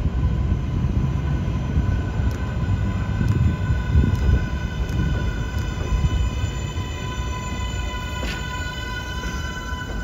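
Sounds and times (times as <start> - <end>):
high multi-tone whine: 0.0 - 10.0
train wheels rumbling on rails: 0.0 - 10.0.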